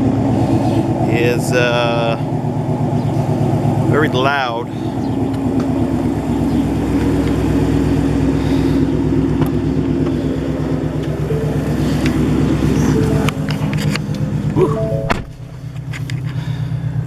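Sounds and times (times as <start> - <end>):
loud car engine idling: 0.0 - 17.0.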